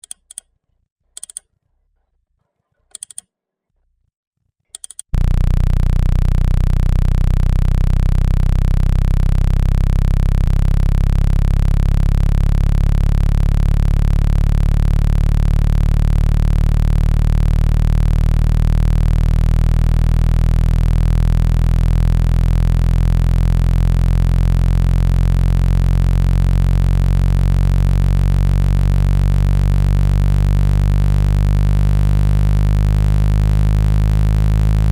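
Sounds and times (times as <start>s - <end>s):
loud low synthesized tone: 5.2s - 34.9s.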